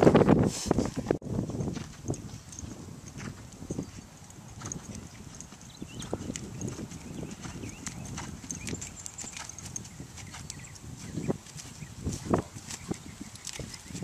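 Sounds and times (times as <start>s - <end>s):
horse hooves trotting on dirt: 0.8s - 14.0s.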